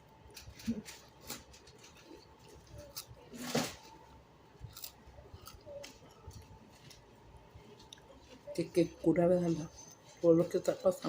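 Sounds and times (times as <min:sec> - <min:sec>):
quiet eating clicks and mouth noises: 0:00.0 - 0:03.4, 0:04.5 - 0:11.0.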